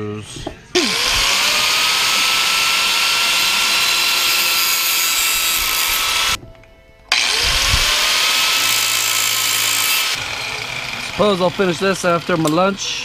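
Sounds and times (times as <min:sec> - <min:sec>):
angle grinder cutting metal: 0:00.8 - 0:06.4, 0:07.1 - 0:13.0.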